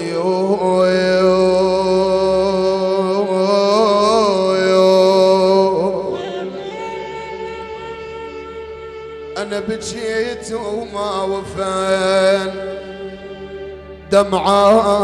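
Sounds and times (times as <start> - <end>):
man singing a lament: 0.0 - 15.0.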